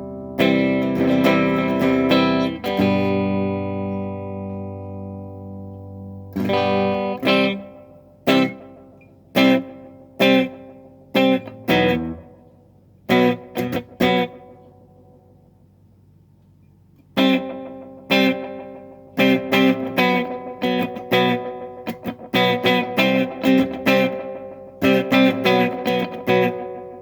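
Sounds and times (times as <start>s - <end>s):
electric guitar chords: 0.0s - 15.6s, 17.0s - 27.0s.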